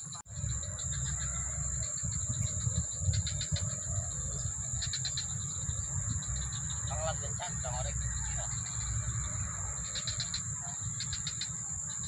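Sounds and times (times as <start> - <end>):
high-pitched insect drone: 0.0 - 12.0
insects chirping: 0.0 - 12.0
low rumble: 0.2 - 11.3.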